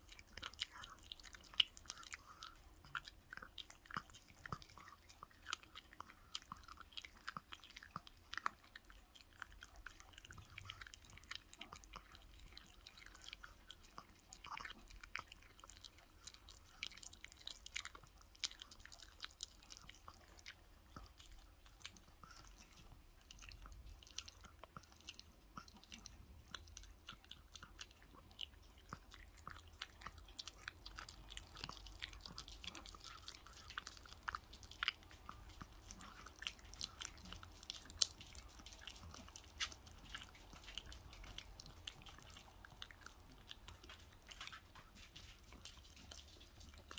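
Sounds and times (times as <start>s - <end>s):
dog chewing meat and bone: 0.0s - 46.9s.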